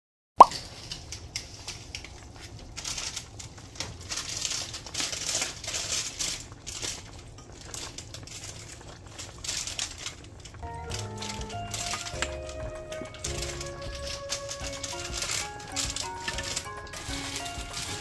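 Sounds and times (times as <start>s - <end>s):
stew bubbling in a pot: 0.4s - 18.0s.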